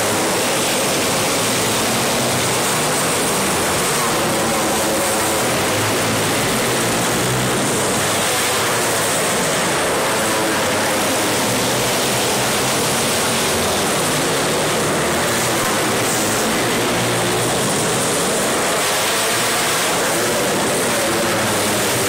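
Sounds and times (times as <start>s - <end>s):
racing kart engines: 0.0s - 22.0s.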